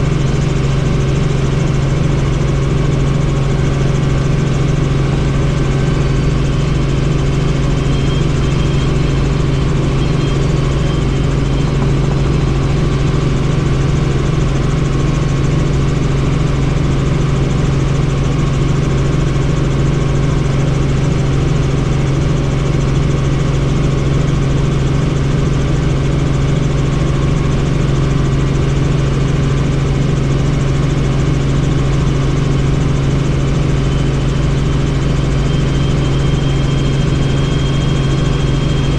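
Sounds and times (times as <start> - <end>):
helicopter flying: 0.0 - 38.9.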